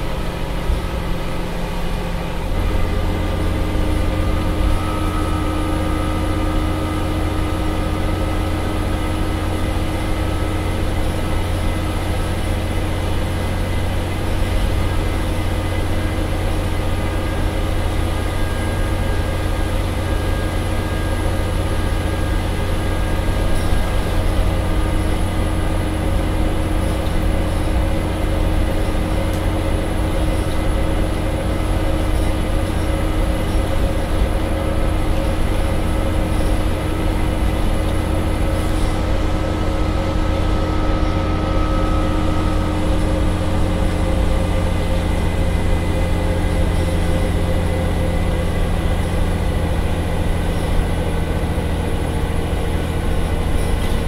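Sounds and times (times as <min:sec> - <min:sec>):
bus diesel engine drone: 0:00.0 - 0:54.0
faint whine: 0:00.0 - 0:54.0
road noise: 0:00.0 - 0:54.0.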